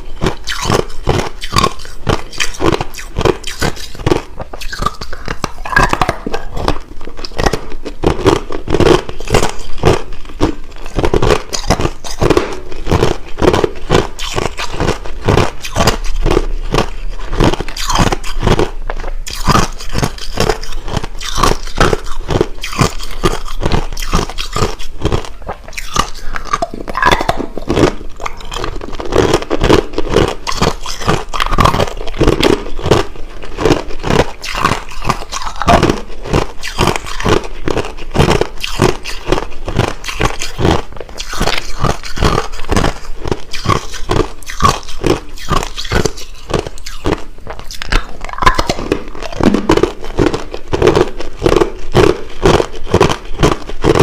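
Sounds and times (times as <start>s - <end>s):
crushed ice being chewed: 0.0s - 54.0s.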